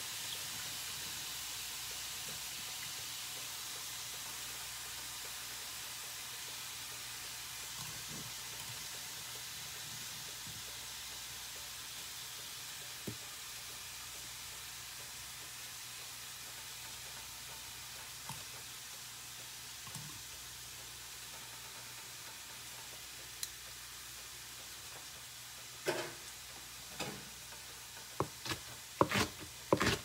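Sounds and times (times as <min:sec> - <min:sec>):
food frying in a pan: 0:00.0 - 0:30.0.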